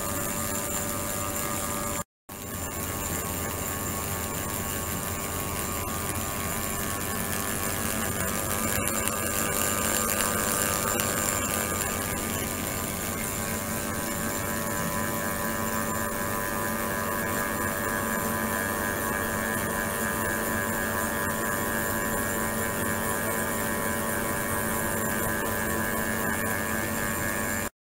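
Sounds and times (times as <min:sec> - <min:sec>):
steady multi-tone hum: 0:00.0 - 0:24.8.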